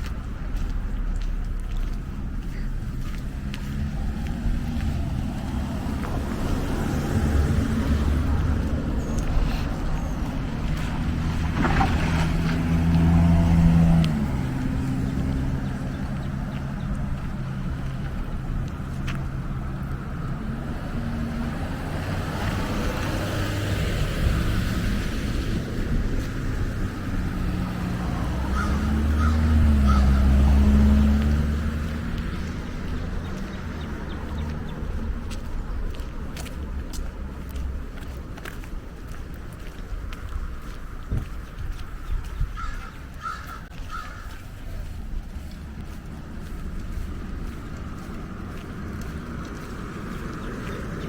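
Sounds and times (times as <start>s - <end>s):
street traffic rumble: 0.0s - 51.0s
vehicle passing close: 0.0s - 51.0s.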